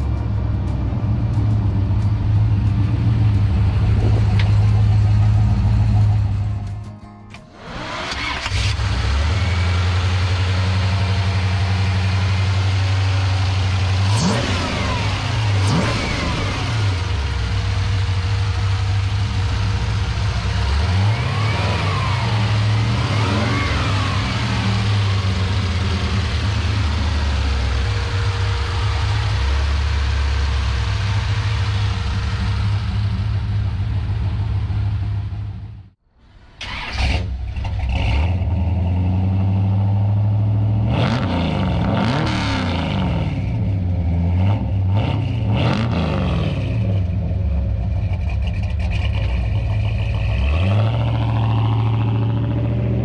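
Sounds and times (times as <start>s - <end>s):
car engine revving: 0.0s - 6.8s, 7.5s - 36.0s, 36.6s - 53.0s.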